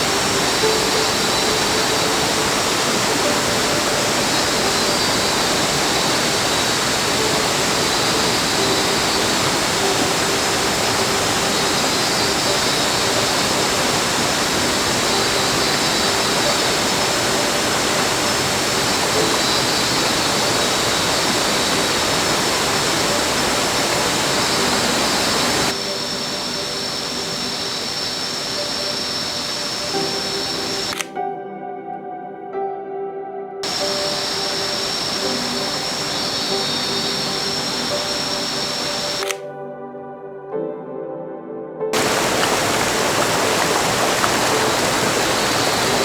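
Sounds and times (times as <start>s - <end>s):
waterfall and creek rushing: 0.0s - 31.0s, 33.6s - 39.3s, 42.0s - 46.0s.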